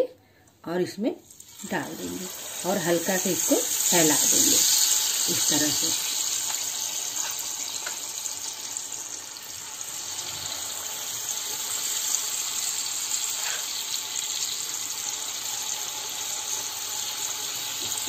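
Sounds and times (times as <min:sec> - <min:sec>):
batter frying in ghee: 0:01.2 - 0:18.0.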